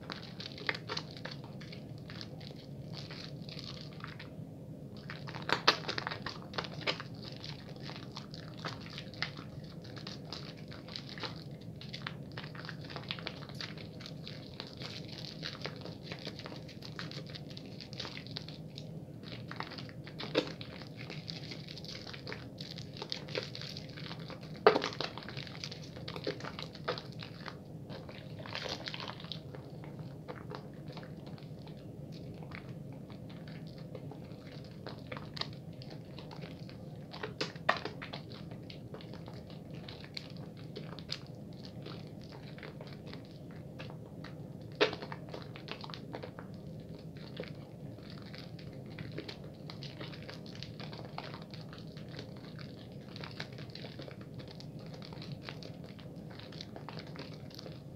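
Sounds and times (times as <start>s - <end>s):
soap lather squishing: 0.0s - 57.9s.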